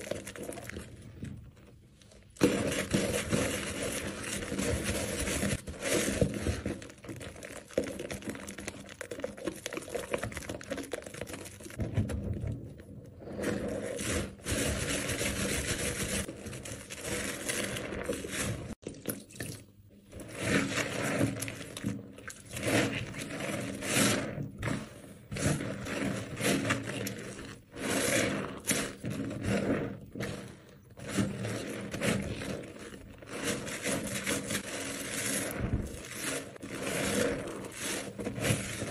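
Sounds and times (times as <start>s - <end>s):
wet soap squelching: 0.0s - 38.9s.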